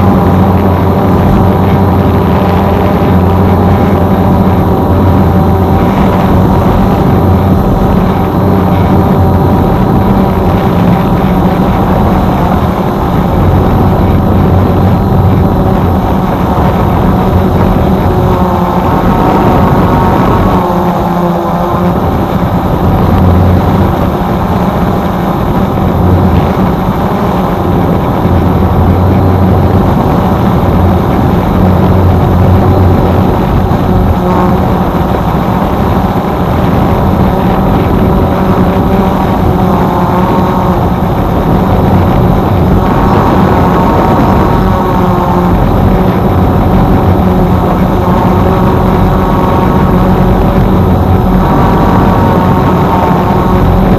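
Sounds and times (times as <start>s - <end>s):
drone propellers buzzing: 0.0s - 53.9s.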